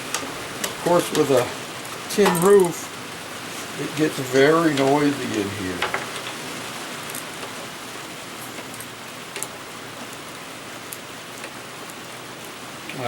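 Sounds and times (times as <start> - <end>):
rain on a tin roof: 0.0 - 13.0.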